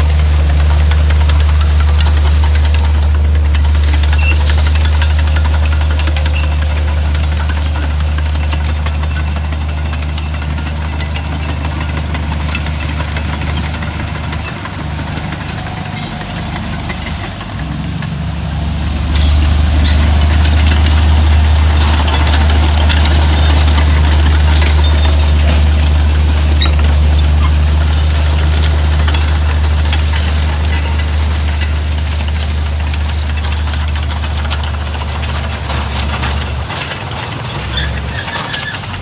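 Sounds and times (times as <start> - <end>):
heavy diesel engine running: 0.0 - 39.0
metallic clanks and rattles: 3.6 - 9.4, 10.0 - 39.0.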